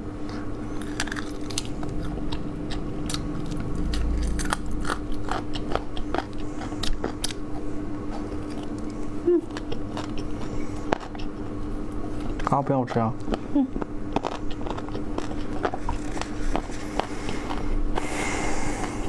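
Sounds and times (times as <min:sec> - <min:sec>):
chewing crunchy fried chicken: 0:00.0 - 0:19.0
faint steady hum: 0:00.0 - 0:19.0.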